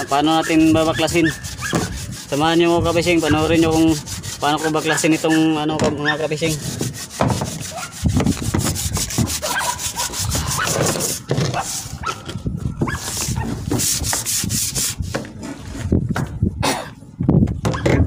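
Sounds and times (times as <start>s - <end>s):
camera rubbing against cloth: 0.0s - 16.0s.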